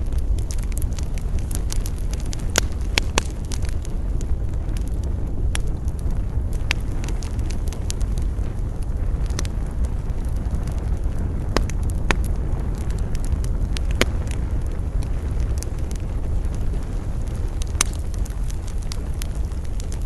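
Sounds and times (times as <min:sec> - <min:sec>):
campfire crackling: 0:00.0 - 0:20.0
fire popping sharply: 0:00.0 - 0:20.0
low rumble of wind: 0:00.0 - 0:20.0.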